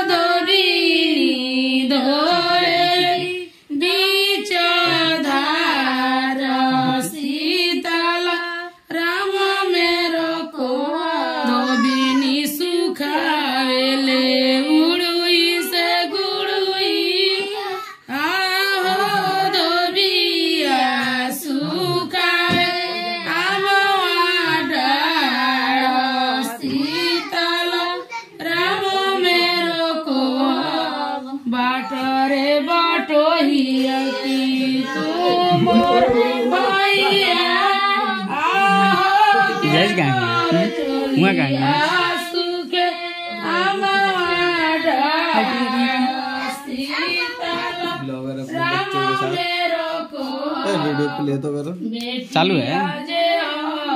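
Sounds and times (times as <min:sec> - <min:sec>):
high voices singing unaccompanied: 0:00.0 - 0:53.9.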